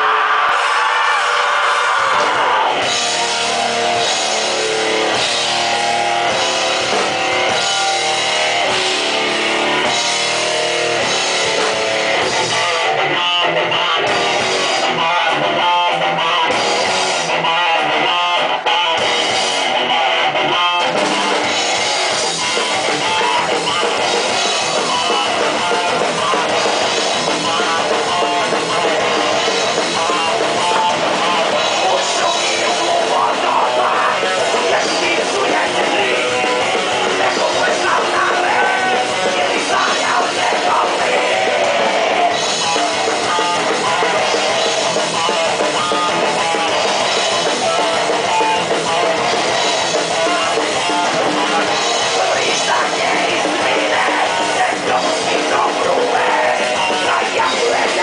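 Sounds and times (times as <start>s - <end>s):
live punk rock band playing: 0.0s - 58.0s.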